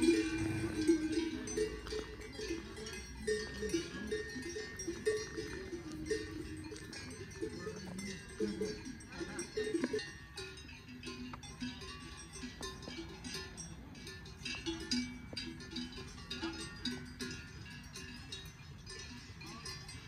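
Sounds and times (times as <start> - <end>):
cowbells clanking: 0.0 - 20.0.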